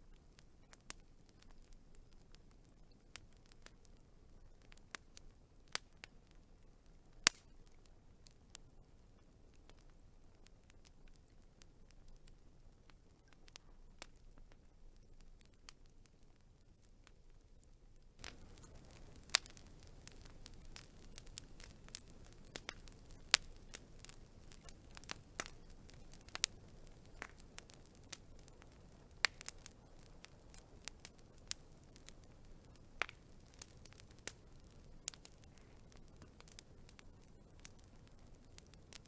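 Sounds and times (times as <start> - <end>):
low hiss of burning: 0.0 - 39.0
wood fire crackling: 0.0 - 39.0.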